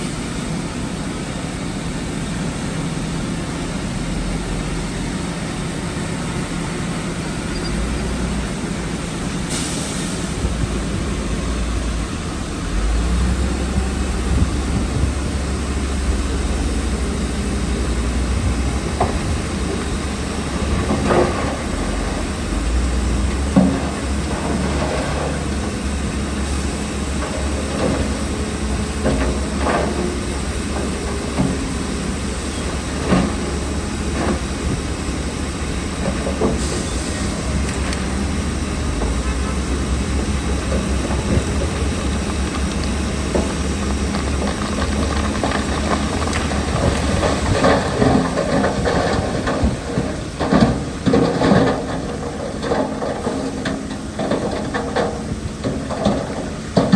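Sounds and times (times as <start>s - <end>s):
heavy diesel machinery rumbling: 0.0s - 56.9s.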